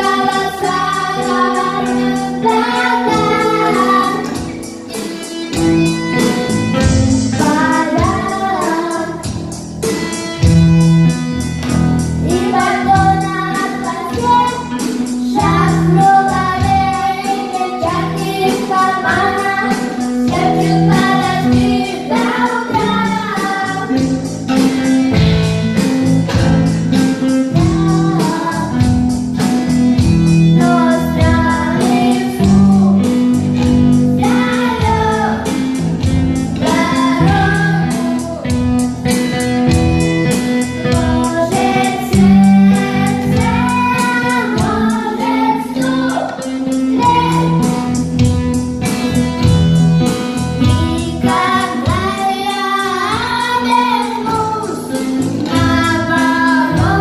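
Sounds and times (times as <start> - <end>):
voices singing: 0.0 - 10.4, 12.0 - 49.1, 50.1 - 57.0
steady drum beat: 0.0 - 57.0
strummed guitar: 0.0 - 57.0.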